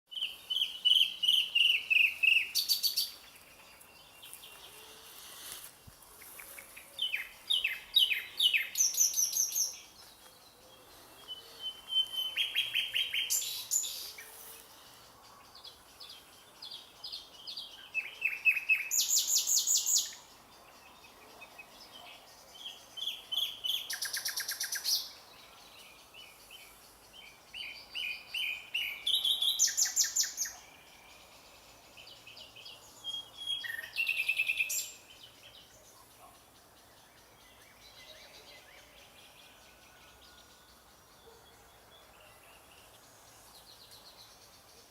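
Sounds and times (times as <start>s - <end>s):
nightingale singing: 0.1s - 44.9s.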